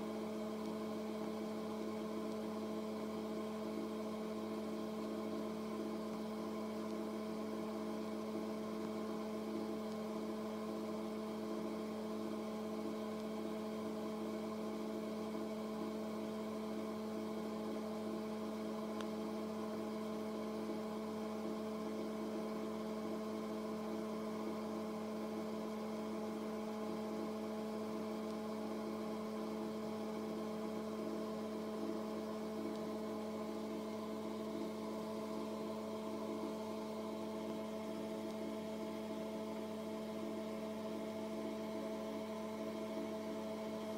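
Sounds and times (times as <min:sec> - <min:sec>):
steady even hum: 0:00.0 - 0:43.9.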